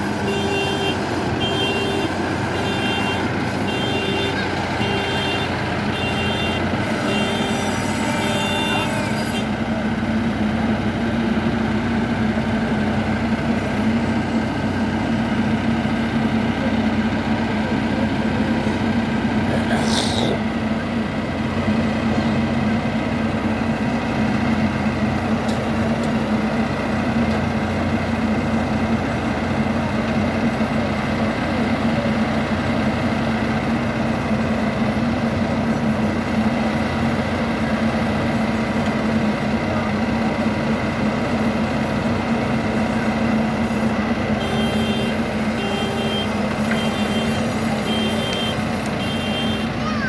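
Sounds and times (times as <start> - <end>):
heavy machinery engines humming: 0.0 - 50.0.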